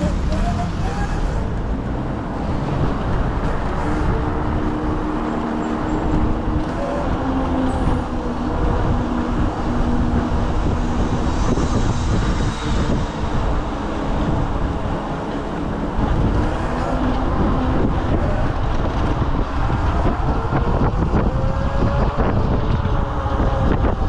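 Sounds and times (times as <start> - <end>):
scooter tyre rumble: 0.0 - 24.0
wind rushing over microphone: 0.0 - 24.0.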